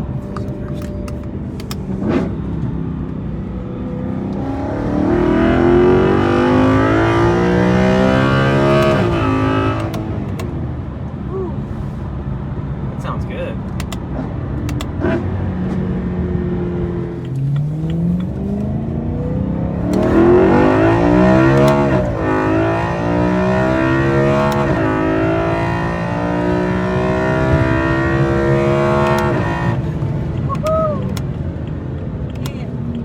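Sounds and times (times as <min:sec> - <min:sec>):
car engine accelerating hard: 0:00.0 - 0:11.1, 0:13.0 - 0:33.0.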